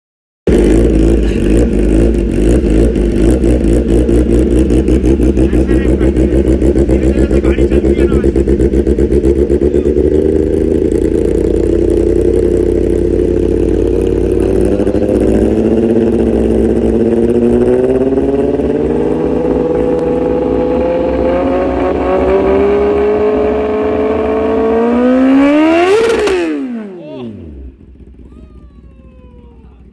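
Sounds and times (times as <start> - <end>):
motorcycle engine revving: 0.5 - 29.9.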